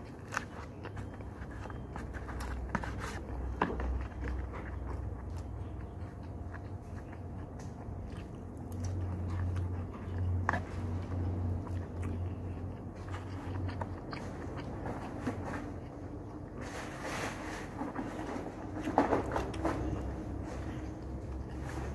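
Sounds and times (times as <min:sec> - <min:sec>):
person chewing food: 0:00.0 - 0:21.9.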